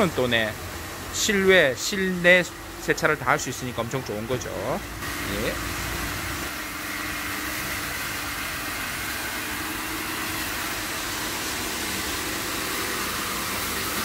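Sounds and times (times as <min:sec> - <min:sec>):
machine drone with hiss: 0:00.0 - 0:14.0.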